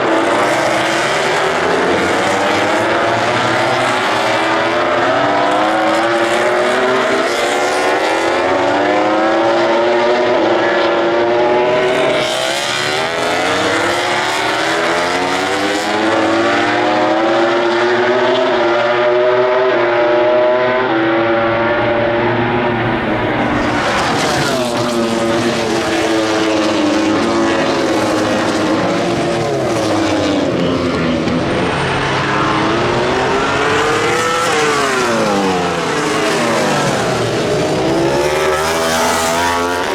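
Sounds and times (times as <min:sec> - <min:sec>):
racing motorcycles passing at high revs: 0:00.0 - 0:39.9.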